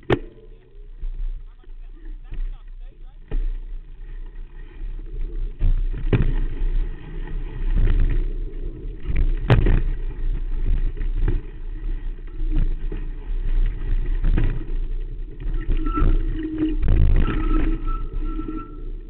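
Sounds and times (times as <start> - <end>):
bike knocking over bumps: 0.0 - 18.8
bike tyre rumbling on dirt: 0.0 - 19.0.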